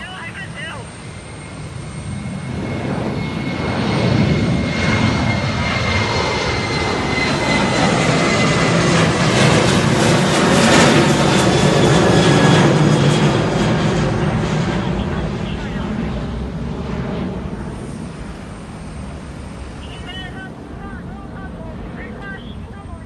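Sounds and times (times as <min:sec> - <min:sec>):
jet airliner engines roaring overhead: 0:00.0 - 0:23.0.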